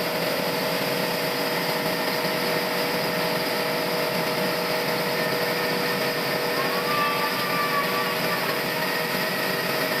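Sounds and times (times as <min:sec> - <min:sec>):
machine whine: 0:00.0 - 0:10.0
sawmill machinery rushing: 0:00.0 - 0:10.0.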